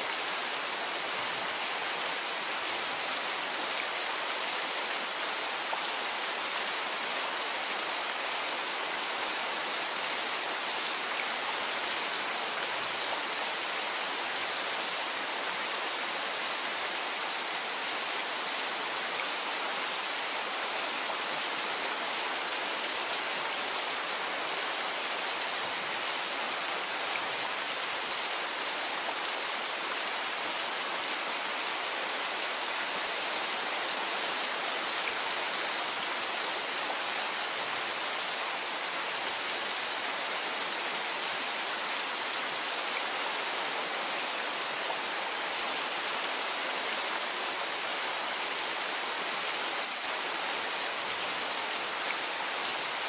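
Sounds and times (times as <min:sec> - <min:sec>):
rain falling steadily: 0:00.0 - 0:53.0.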